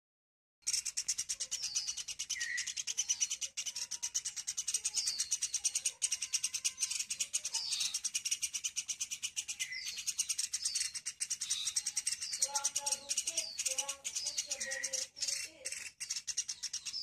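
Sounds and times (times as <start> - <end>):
woodpecker high-pitched chatter: 0.6 - 17.0.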